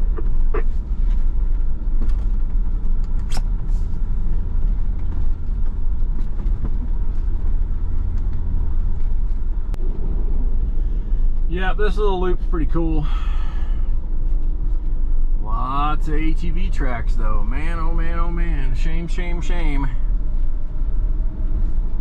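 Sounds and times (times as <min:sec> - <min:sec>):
vehicle engine and tyre rumble: 0:00.0 - 0:22.0.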